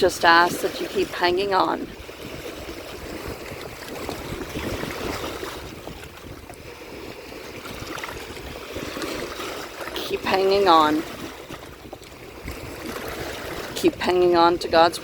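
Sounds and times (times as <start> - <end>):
waves lapping against shore: 0.0 - 15.0
wind rumble: 0.0 - 15.0.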